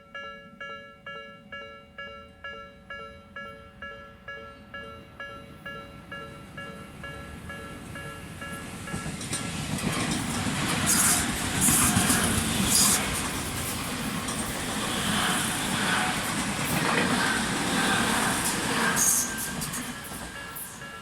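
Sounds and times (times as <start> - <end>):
train passing: 2.3 - 21.0.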